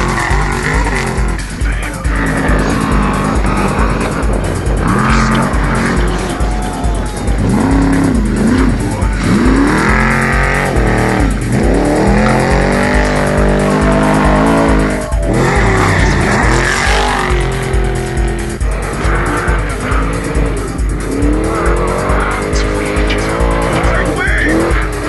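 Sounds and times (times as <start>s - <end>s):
background music with fast beat: 0.0s - 25.0s
racing truck engines revving: 0.0s - 25.0s.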